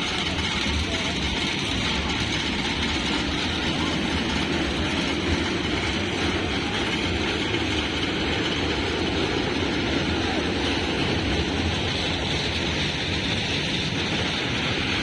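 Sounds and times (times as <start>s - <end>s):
ride train rumbling: 0.0s - 15.0s.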